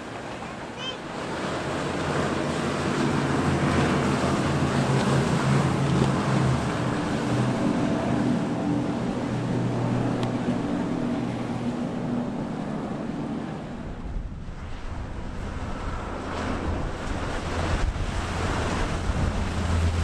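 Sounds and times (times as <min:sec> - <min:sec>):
boat wake rushing: 0:00.0 - 0:20.0
outboard motors droning: 0:00.0 - 0:20.0
wind on microphone: 0:01.6 - 0:20.0.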